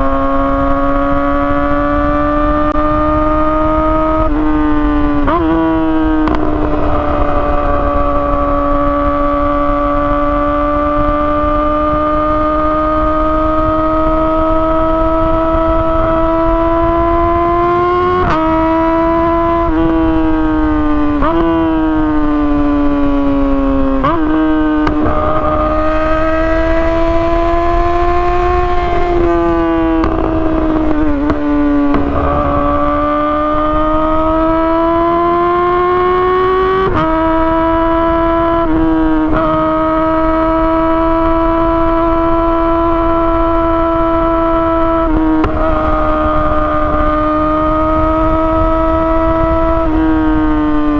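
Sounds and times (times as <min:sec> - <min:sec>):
motorcycle engine at high revs: 0:00.0 - 0:50.9.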